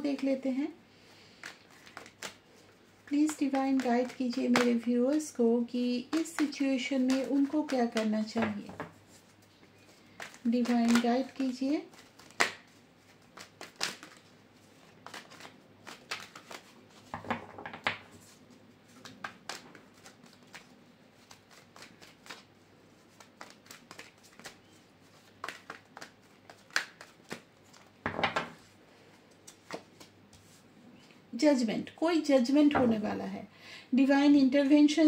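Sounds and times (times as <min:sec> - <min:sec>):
cards being shuffled: 0:01.3 - 0:05.4, 0:06.0 - 0:30.6.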